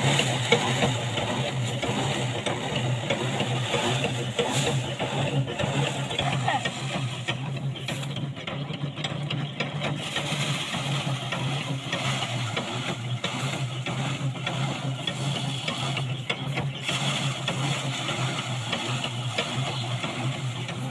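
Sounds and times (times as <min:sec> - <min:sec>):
rattle of stalks being beaten: 0:00.0 - 0:20.9
thresher engine hum: 0:00.0 - 0:20.9.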